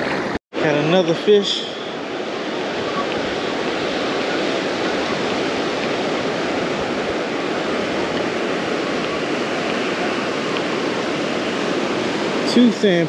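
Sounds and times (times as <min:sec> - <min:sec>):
surf washing over sand: 0:00.0 - 0:13.0.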